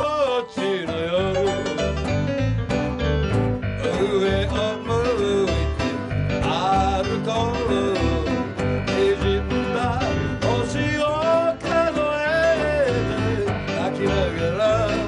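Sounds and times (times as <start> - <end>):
man singing: 0.0 - 2.3, 3.6 - 15.0
keyboard: 0.0 - 15.0
nylon-string acoustic guitar: 0.0 - 15.0
electric bass: 0.9 - 15.0.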